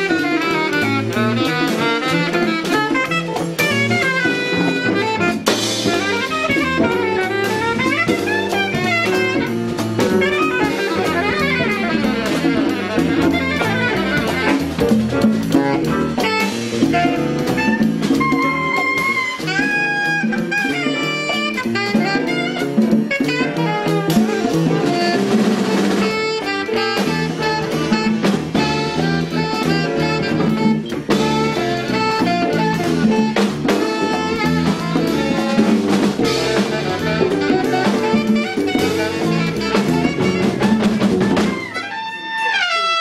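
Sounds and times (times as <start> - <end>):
bass guitar: 0.0 - 42.7
drum kit with cymbals: 0.0 - 43.0
saxophone: 0.0 - 43.0.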